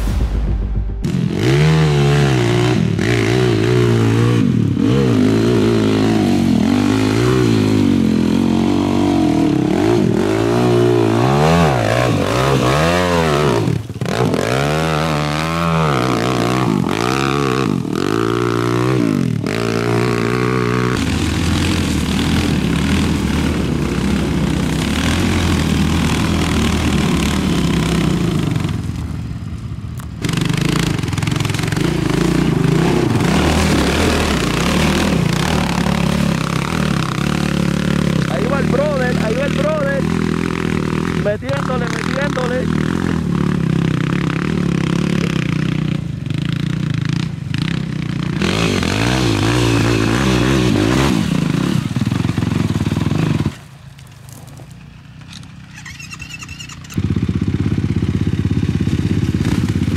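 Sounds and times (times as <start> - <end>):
atv engines revving: 1.0 - 59.9.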